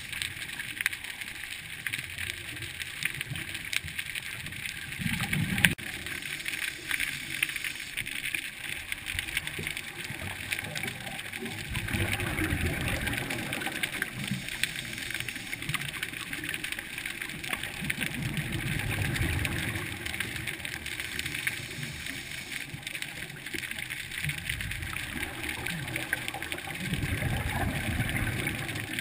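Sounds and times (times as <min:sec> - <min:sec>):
exhaled bubbles gurgling underwater: 0:00.0 - 0:29.0
steady crackling hiss: 0:00.0 - 0:29.0.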